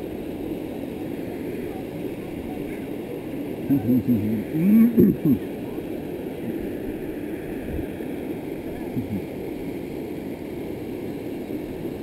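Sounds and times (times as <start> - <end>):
river water rushing over rock: 0.0 - 12.0.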